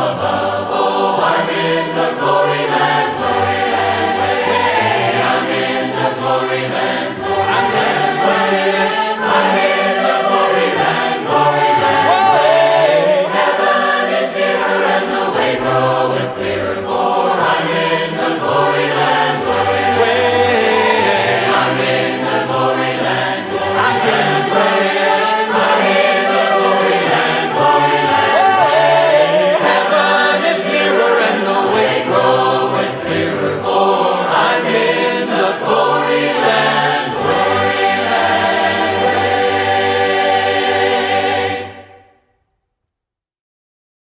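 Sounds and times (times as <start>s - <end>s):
a cappella choir singing hymn: 0.0s - 42.2s.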